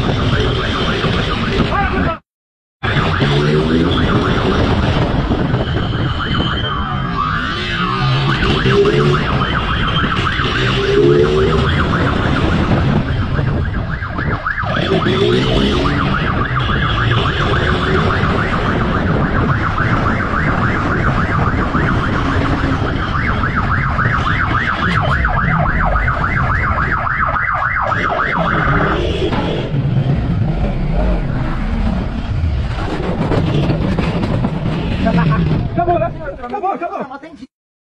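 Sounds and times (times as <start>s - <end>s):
motorcycle siren warbling: 0.0s - 2.2s, 2.8s - 34.1s.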